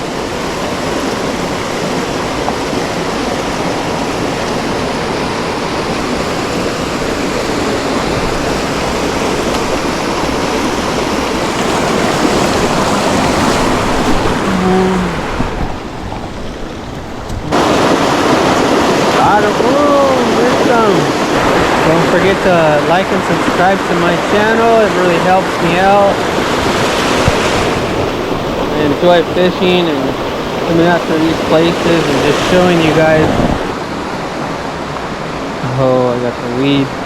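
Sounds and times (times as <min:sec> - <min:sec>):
creek water rushing over rapids: 0:00.0 - 0:37.0.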